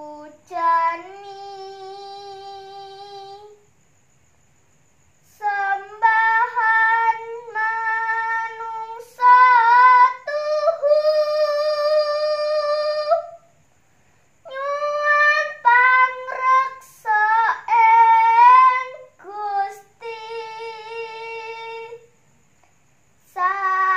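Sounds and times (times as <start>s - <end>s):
woman singing unaccompanied: 0.0s - 3.7s, 5.2s - 13.5s, 14.4s - 22.2s, 23.2s - 23.9s.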